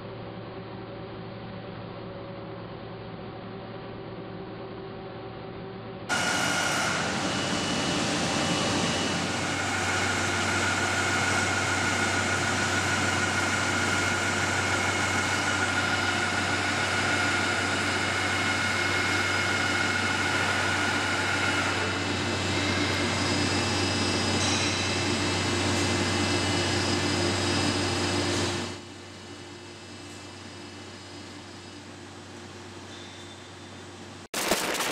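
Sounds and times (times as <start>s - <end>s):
high steady machine whines: 0.0s - 34.9s
industrial machine hum: 0.0s - 34.9s.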